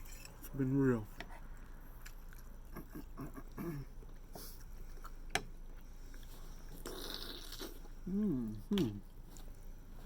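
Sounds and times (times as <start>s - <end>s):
chewing and mouth noises: 1.2s - 10.0s.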